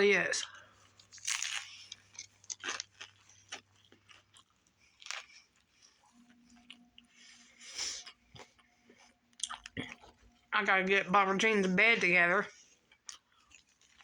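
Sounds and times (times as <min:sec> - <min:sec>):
person chewing sandwich: 0:00.6 - 0:10.5, 0:12.5 - 0:14.0.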